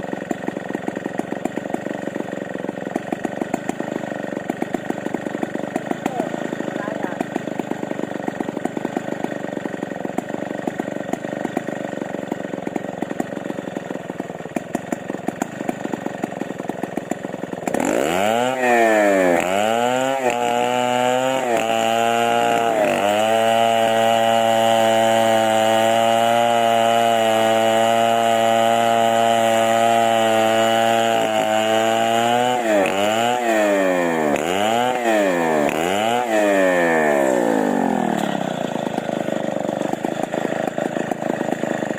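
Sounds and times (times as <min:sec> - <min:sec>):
chainsaw engine revving: 0:00.0 - 0:41.9.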